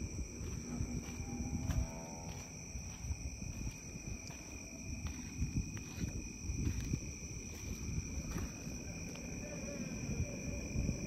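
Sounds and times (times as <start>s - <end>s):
handling and footstep noise: 0.0s - 9.4s
insects trilling: 0.0s - 11.0s.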